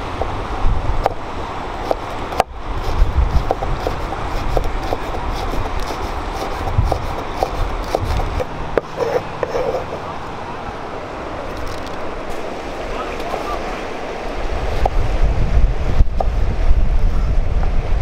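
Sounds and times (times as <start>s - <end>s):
wind on microphone: 0.0s - 10.6s, 11.4s - 18.0s.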